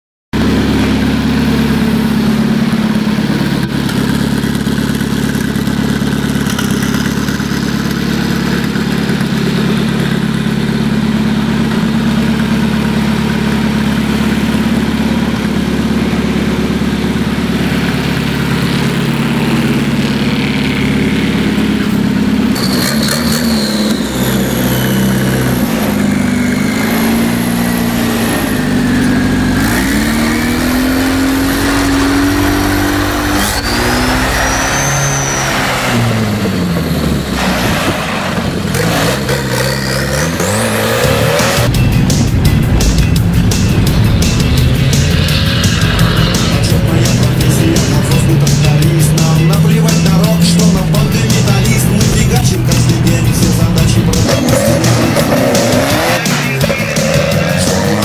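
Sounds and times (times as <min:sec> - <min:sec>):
tractor engine idling and revving: 0:00.3 - 0:58.0.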